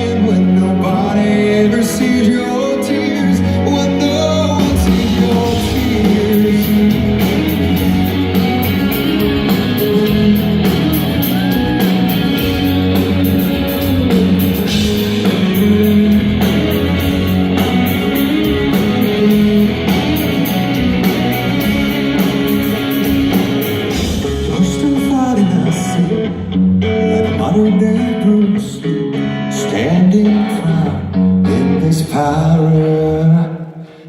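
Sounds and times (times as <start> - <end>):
rock band playing instrumental: 0.0 - 33.3.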